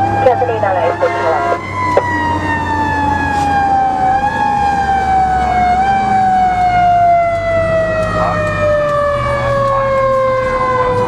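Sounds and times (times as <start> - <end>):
fire engine siren wailing: 0.0 - 11.0
truck engine droning: 0.0 - 11.0.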